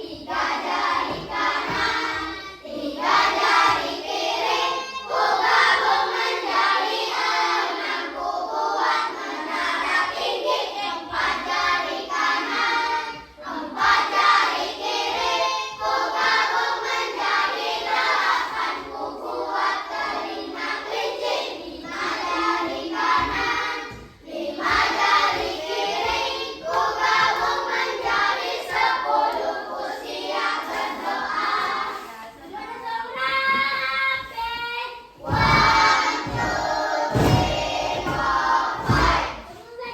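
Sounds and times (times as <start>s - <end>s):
children singing: 0.0s - 39.9s.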